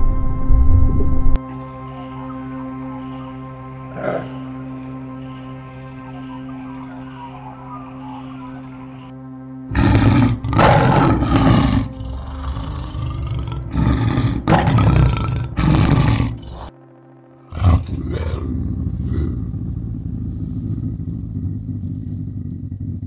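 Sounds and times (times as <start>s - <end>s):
soft music with held tones: 0.0s - 23.0s
lion roaring: 2.9s - 9.1s, 9.7s - 16.7s, 17.5s - 23.0s.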